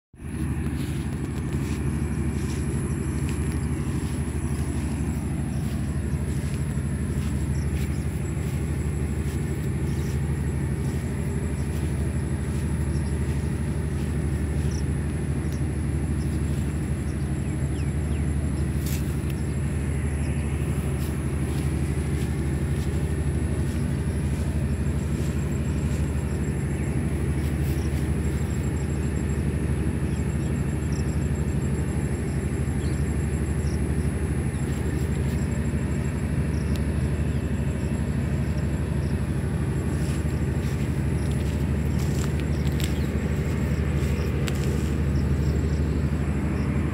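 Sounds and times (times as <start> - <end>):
low mechanical drone: 0.1 - 46.9.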